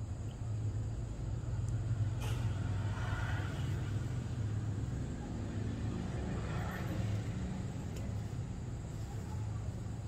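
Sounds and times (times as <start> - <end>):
low rumble of background noise: 0.0 - 10.0.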